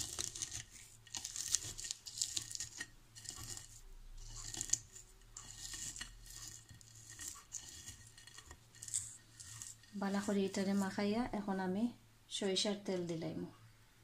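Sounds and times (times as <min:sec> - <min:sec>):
dry chillies crackling: 0:00.0 - 0:11.7.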